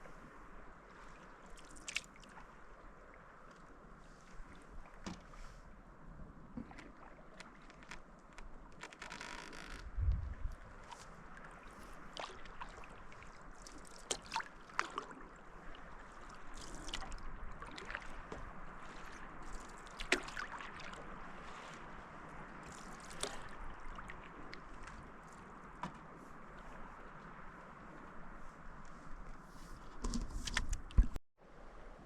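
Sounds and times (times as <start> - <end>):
moving river water: 0.0 - 32.0
paddle splashing in water: 0.8 - 5.6, 6.5 - 31.2.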